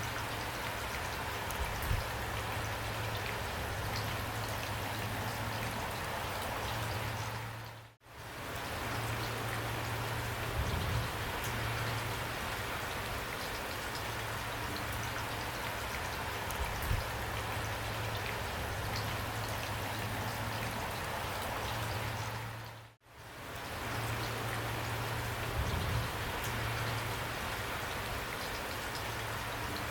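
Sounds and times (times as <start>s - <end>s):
heavy rain: 0.0s - 29.9s.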